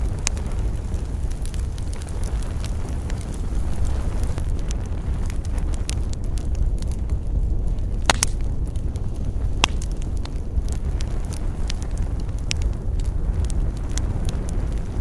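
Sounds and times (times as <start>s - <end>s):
loud fire snaps: 0.0s - 15.0s
low rumble: 0.0s - 15.0s
wood fire crackling: 0.0s - 15.0s.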